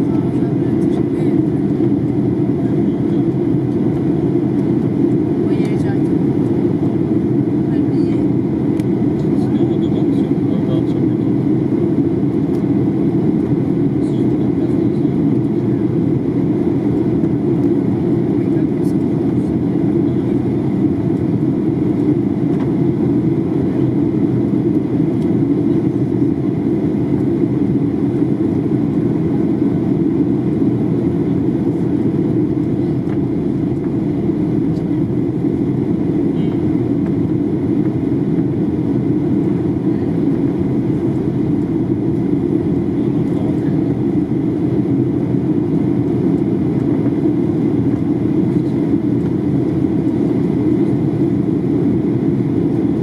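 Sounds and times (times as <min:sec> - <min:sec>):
airliner cabin hum: 0:00.0 - 0:53.0.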